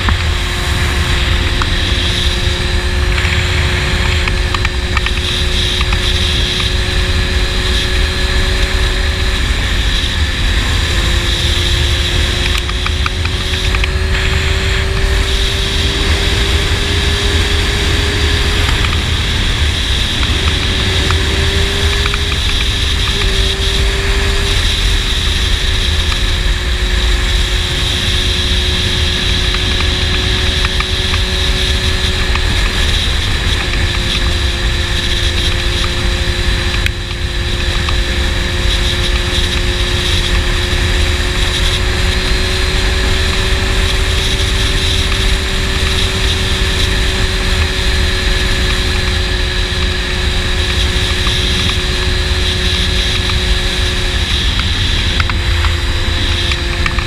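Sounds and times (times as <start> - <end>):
motorcycle engine cruising: 0.0 - 57.0
wind rumble on microphone: 0.0 - 57.0.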